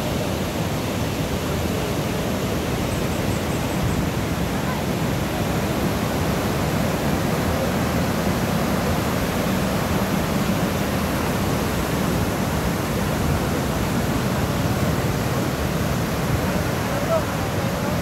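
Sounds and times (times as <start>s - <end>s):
white water rushing: 0.0s - 18.0s.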